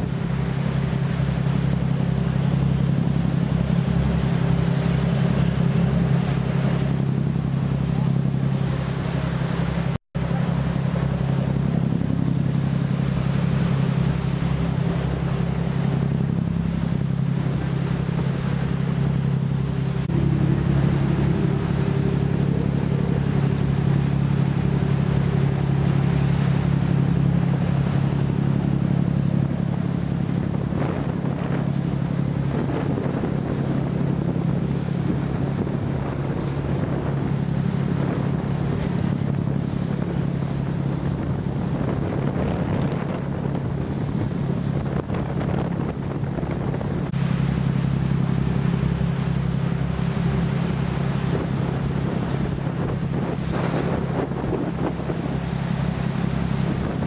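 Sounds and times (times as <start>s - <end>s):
boat engine drone: 0.0s - 57.0s
water rushing: 0.0s - 57.0s
wind buffeting microphone: 0.0s - 57.0s.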